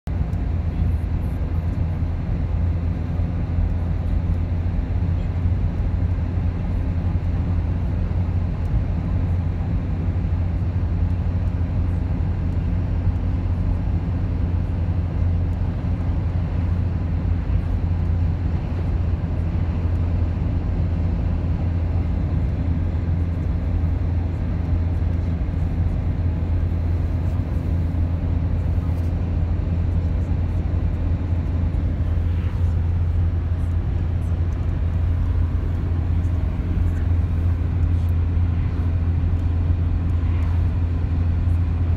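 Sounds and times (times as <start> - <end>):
car driving from inside cabin: 0.1 - 41.9.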